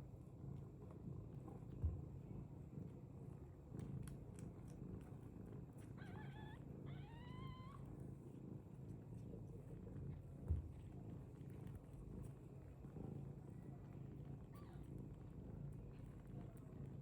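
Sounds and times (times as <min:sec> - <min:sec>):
cat purring: 0:00.2 - 0:17.0.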